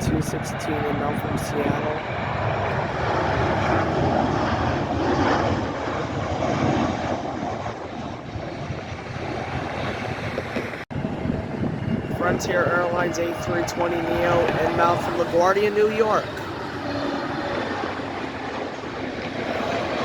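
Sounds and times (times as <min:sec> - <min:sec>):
jet airliner engines rushing: 0:00.0 - 0:20.0.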